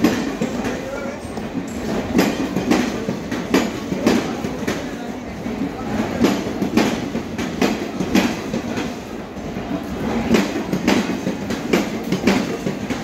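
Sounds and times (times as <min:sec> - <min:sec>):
train rumble: 0:00.0 - 0:13.0
train wheels clacking: 0:00.0 - 0:13.0.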